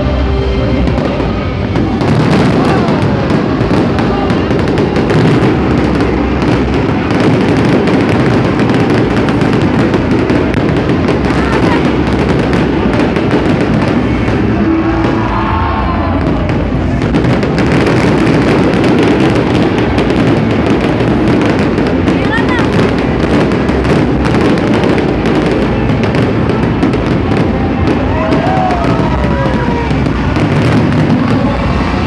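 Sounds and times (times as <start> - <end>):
fireworks bangs and crackles: 0.0 - 32.0
music playing: 0.0 - 32.0.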